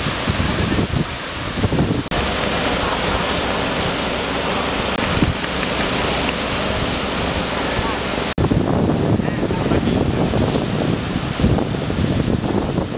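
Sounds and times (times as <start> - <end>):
surf breaking on a beach: 0.0 - 12.9
wind buffeting the microphone: 0.0 - 12.9.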